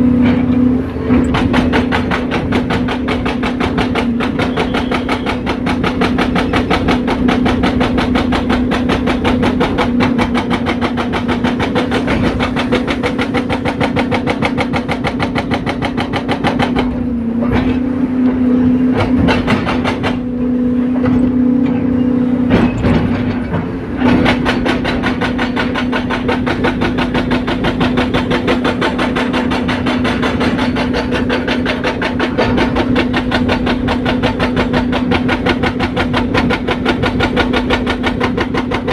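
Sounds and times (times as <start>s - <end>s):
excavator diesel engine: 0.0s - 38.9s
hydraulic breaker hammering asphalt: 0.0s - 38.9s.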